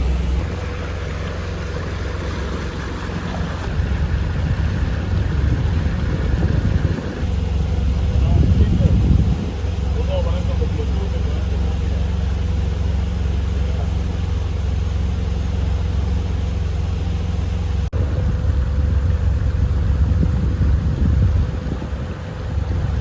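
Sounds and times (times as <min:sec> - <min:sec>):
boat motor droning: 0:00.0 - 0:23.0.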